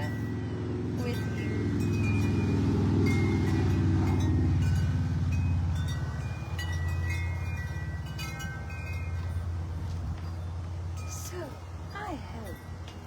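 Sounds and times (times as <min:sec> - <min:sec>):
low vehicle engine rumble: 0:00.0 - 0:13.0
wind chimes clinking: 0:00.0 - 0:13.0.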